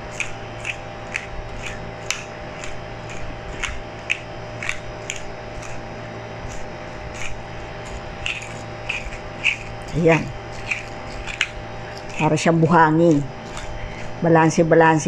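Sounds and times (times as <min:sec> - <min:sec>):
pepper grinder crunching: 0:00.0 - 0:14.6.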